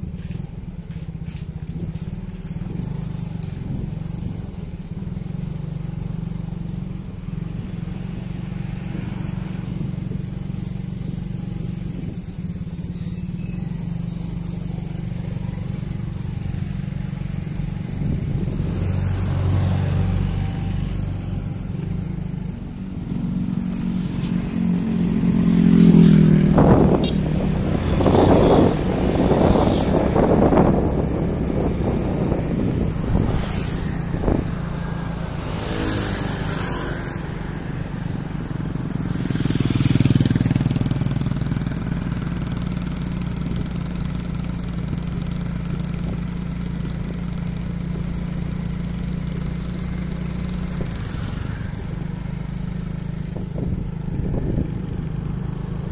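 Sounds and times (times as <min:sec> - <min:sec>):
motorcycle engine running: 0:00.0 - 0:55.9
motorcycles passing: 0:00.0 - 0:55.9.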